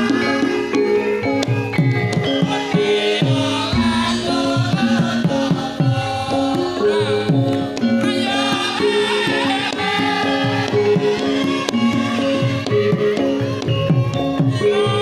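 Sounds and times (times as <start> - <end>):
hand drum strokes: 0.0 - 15.0
metallophone notes: 0.0 - 15.0
wavering melodic line: 0.0 - 15.0.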